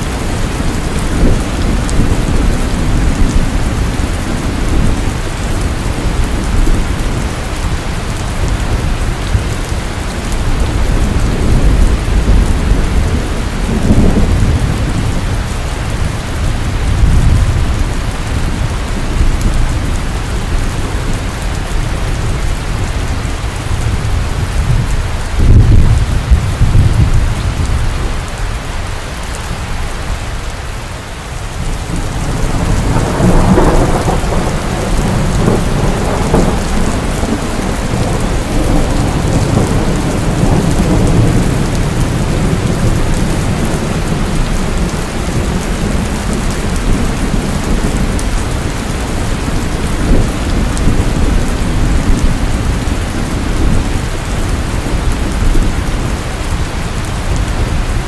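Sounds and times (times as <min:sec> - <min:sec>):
rolling thunder: 0:00.0 - 0:28.3, 0:31.5 - 0:58.0
heavy rain: 0:00.0 - 0:58.0.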